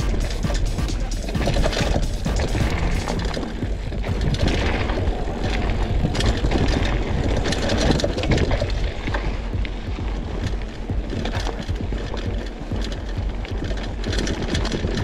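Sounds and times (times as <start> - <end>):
bike rattling over bumps: 0.0 - 15.0
tyres on loose dirt: 0.0 - 15.0
wind rumble on microphone: 0.0 - 15.0.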